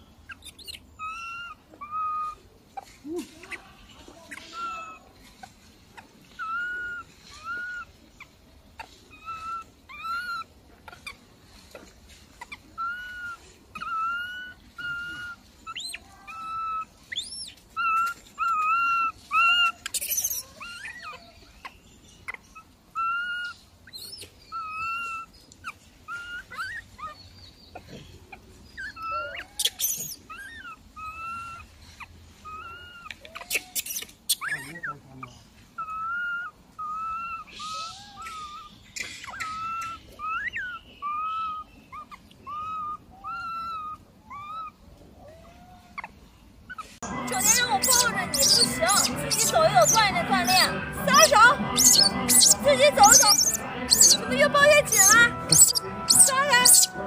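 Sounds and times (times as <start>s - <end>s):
baby monkey whimpering: 0.3s - 3.6s, 4.2s - 21.5s, 22.2s - 57.0s.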